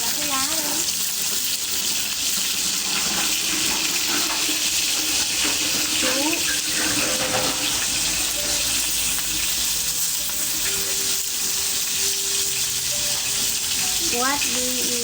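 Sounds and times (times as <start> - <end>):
wood fire hissing and sizzling: 0.0 - 15.0.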